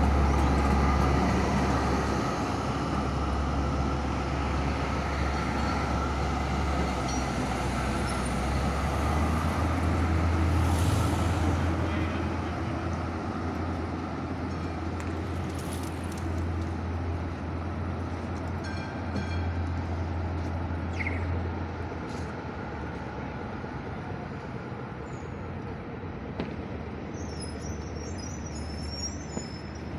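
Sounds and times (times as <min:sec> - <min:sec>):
low engine hum: 0:00.0 - 0:29.9
street traffic: 0:00.0 - 0:29.9.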